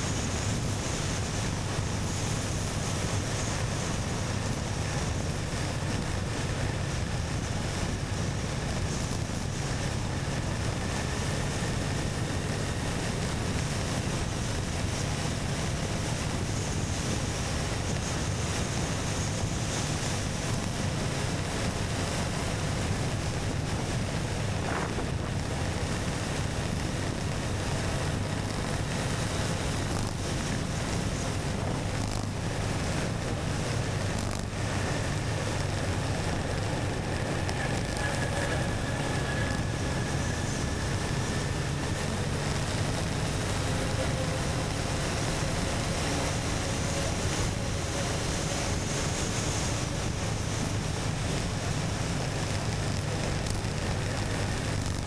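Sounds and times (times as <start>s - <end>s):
motorcycle engine and road drone: 0.0s - 55.0s
wind rush over microphone: 0.0s - 55.0s.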